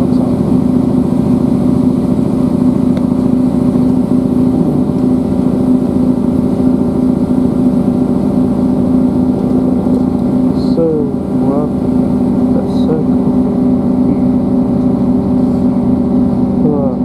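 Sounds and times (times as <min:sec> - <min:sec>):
train engine drone: 0:00.0 - 0:17.0
wheels rumbling on track: 0:00.0 - 0:17.0.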